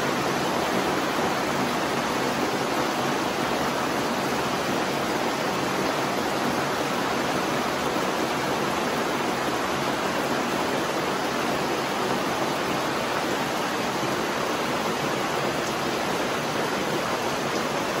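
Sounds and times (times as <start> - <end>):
dense rain hissing: 0.0 - 18.0.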